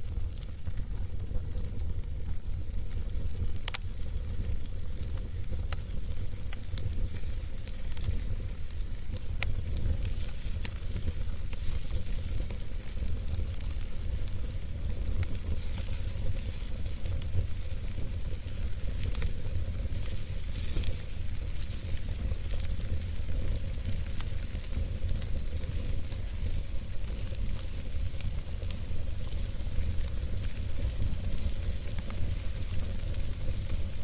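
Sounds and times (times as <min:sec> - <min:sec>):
crackles and pops from burning logs: 0:00.0 - 0:34.0
wood fire burning: 0:00.0 - 0:34.0.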